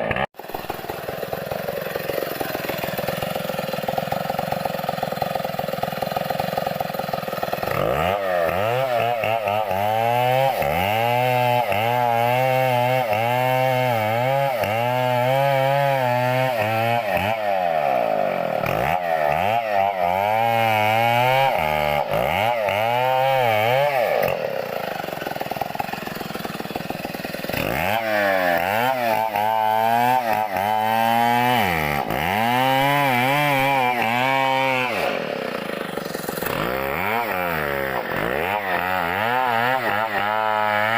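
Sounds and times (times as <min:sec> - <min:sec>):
chainsaw revving and cutting: 0:00.0 - 0:40.9.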